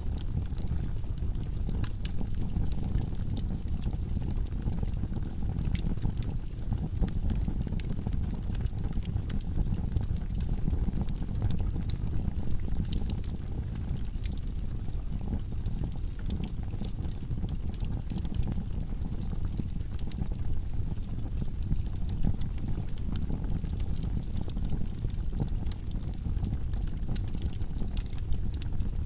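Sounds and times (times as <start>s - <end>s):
low rumble of flames: 0.0s - 29.0s
wood crackling and popping: 0.0s - 29.0s.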